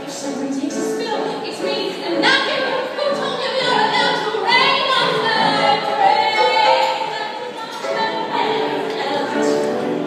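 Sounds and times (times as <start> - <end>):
woman singing show tune: 0.0 - 9.7.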